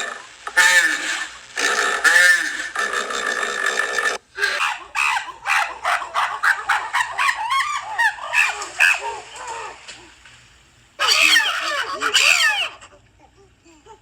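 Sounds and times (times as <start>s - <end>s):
birds calling rapidly: 0.0s - 10.1s, 11.0s - 13.0s.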